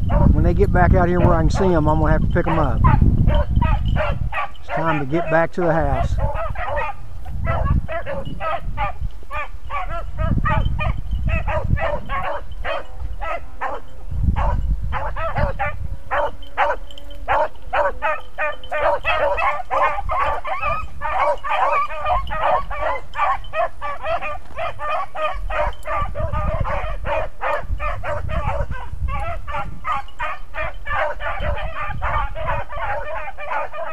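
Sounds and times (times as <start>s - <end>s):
dogs baying: 0.0s - 0.4s, 1.0s - 33.9s.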